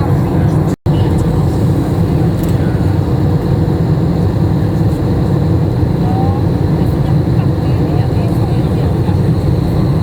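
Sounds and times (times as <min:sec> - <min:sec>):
airliner cabin drone: 0:00.0 - 0:10.0.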